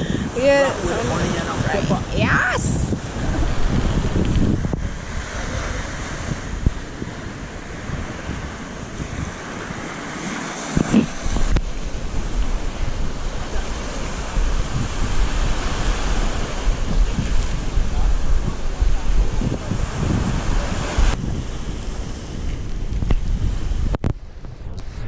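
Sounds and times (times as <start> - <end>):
small waves washing onto beach: 0.0 - 25.0
wind buffeting microphone: 0.0 - 25.0.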